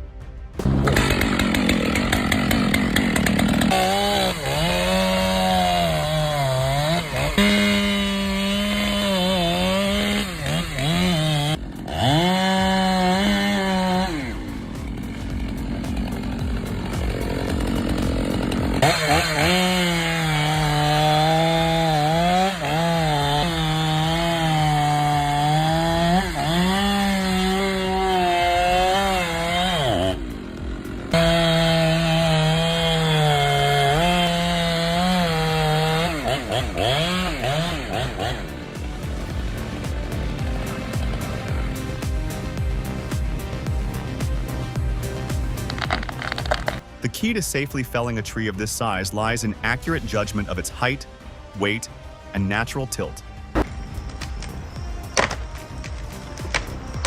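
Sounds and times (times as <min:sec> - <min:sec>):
chainsaw cutting wood: 0:00.6 - 0:57.0.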